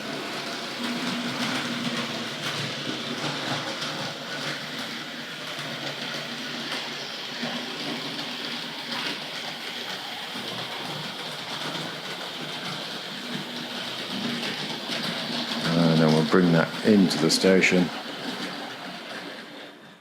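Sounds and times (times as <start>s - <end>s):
model train whirring and rattling: 0.0s - 20.0s.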